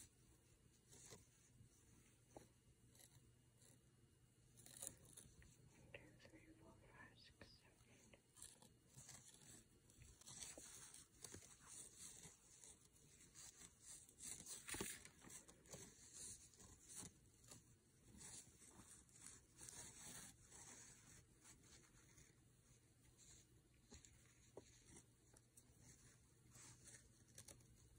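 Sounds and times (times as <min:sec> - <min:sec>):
yarn rustling over crochet hook: 0:00.0 - 0:27.9.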